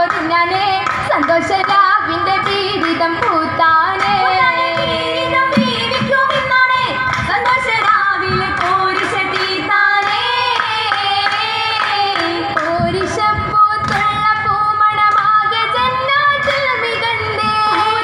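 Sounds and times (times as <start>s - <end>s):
women singing in a group: 0.0s - 18.0s.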